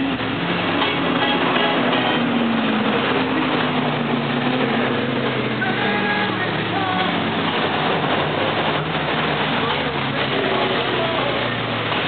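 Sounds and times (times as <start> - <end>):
continuous loud din: 0.0 - 12.0
racing cars passing: 0.0 - 12.0.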